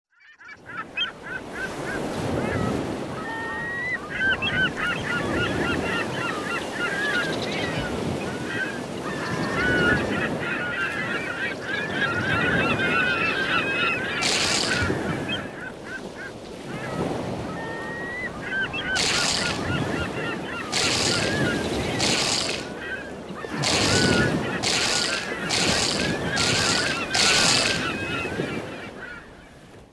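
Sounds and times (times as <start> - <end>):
seagulls squawking: 0.4 - 29.7.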